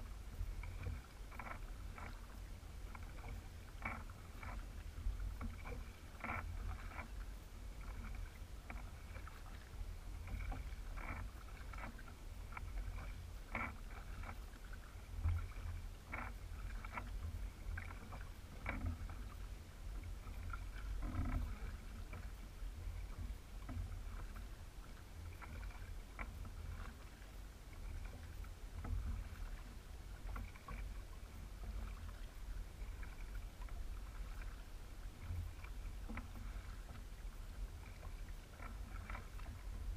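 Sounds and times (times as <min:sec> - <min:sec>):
paddle water drips and splashes: 0:00.0 - 0:39.9.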